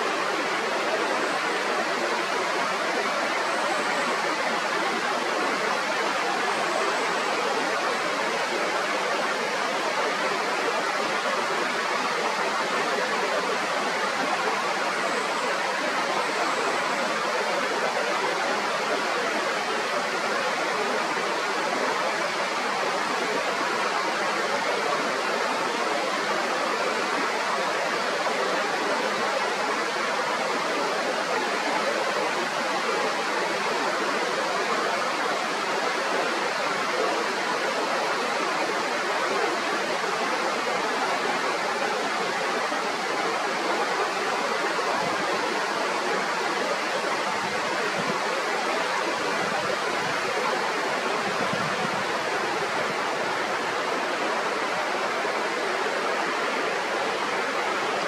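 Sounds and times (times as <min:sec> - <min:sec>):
mountain river rushing: 0:00.0 - 0:58.0.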